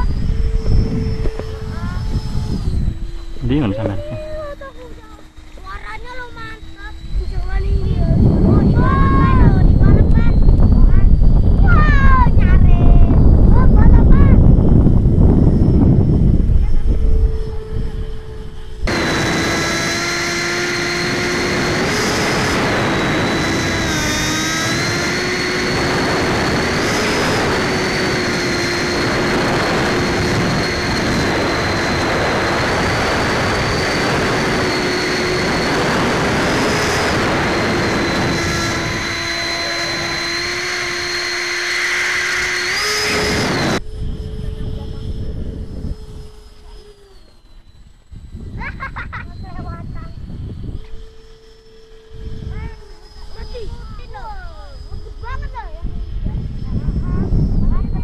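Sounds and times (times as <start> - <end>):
distant fan whine: 0.0 - 58.0
ducted fan whining: 0.0 - 58.0
wind rush on microphone: 0.0 - 58.0.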